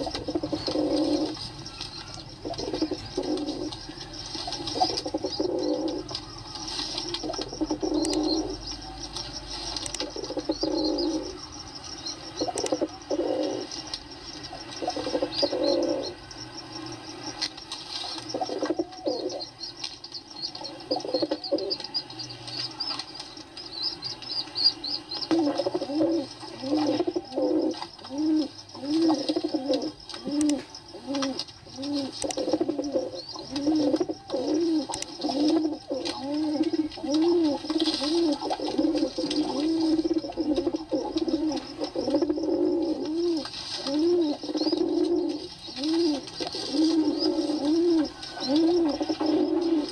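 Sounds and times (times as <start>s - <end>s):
faint high chirps: 0.0s - 49.9s
pigeons cooing: 0.0s - 49.9s.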